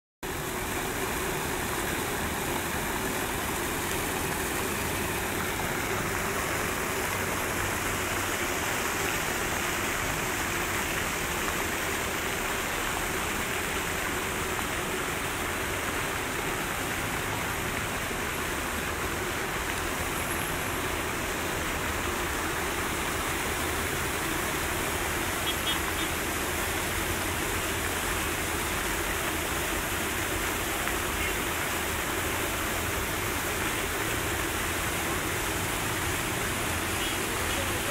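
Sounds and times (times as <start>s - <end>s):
fountain jets splashing into pool: 0.2s - 37.9s
road traffic hum: 0.3s - 37.9s.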